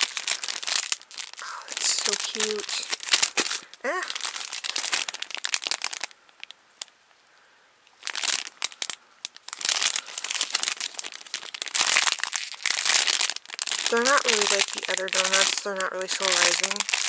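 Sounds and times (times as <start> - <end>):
packaging crinkling: 0.0 - 6.9, 8.0 - 17.0.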